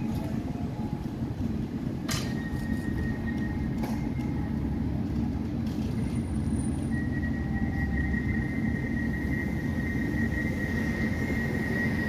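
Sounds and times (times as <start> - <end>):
tram equipment humming and whining: 0.0 - 12.0.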